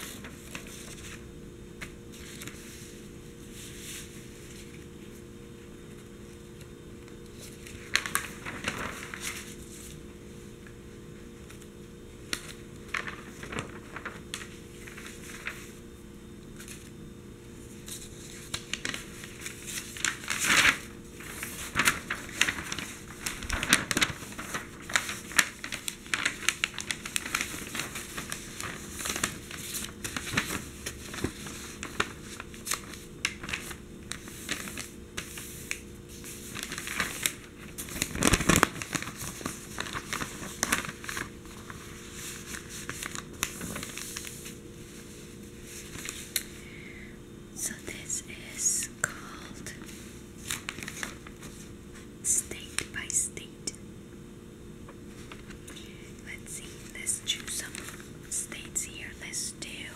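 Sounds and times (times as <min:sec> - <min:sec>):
newspaper pages rustling: 0:00.0 - 0:10.8, 0:11.4 - 0:15.9, 0:16.5 - 0:46.7, 0:49.7 - 0:53.2, 0:54.9 - 0:59.5.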